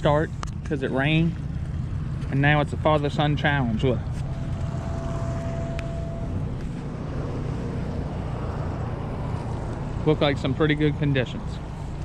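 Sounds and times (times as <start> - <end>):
boat motor rumbling: 0.0 - 12.0.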